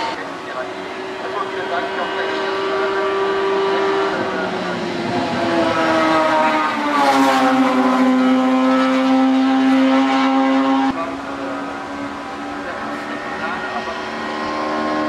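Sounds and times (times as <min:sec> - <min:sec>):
racing car engine passing by: 0:00.0 - 0:15.0.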